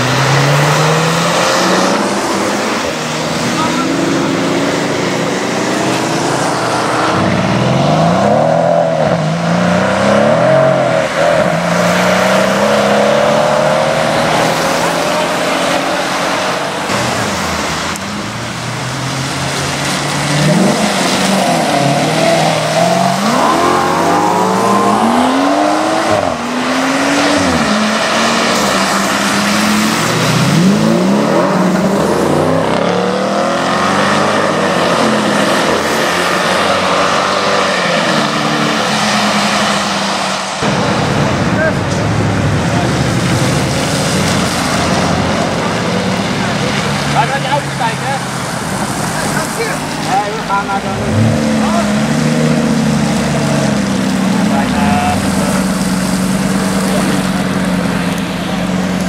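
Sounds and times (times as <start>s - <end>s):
sports car engines accelerating: 0.0s - 59.0s
tyres hissing on wet road: 0.0s - 59.0s.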